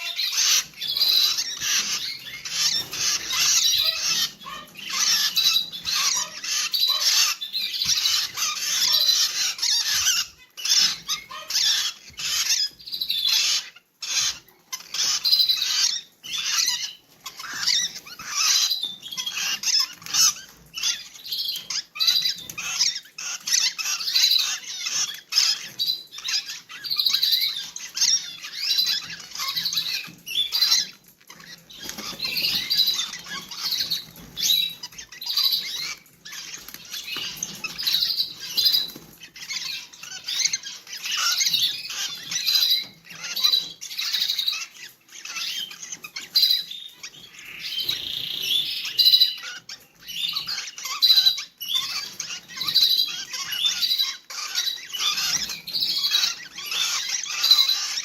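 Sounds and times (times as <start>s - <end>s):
lovebirds chirping and squeaking: 0.0s - 58.0s.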